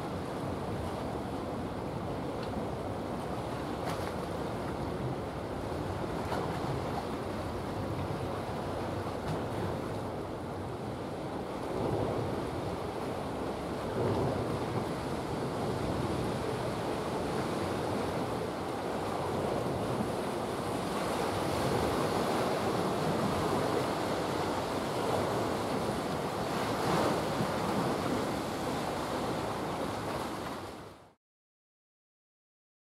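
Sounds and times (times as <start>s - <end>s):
water noise at waterside: 0.0s - 31.2s.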